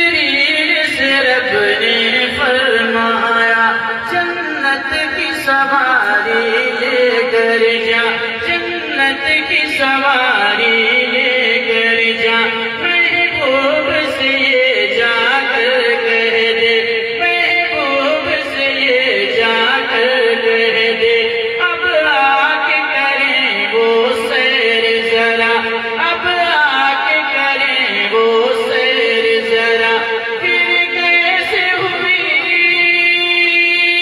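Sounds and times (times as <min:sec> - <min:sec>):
man singing into a microphone: 0:00.0 - 0:34.0
steady held drone: 0:01.4 - 0:32.6.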